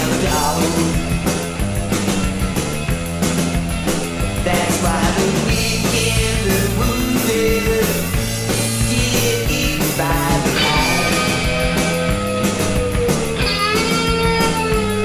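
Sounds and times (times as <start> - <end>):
rock band music: 0.0 - 15.0
steady drum beat: 0.0 - 15.0.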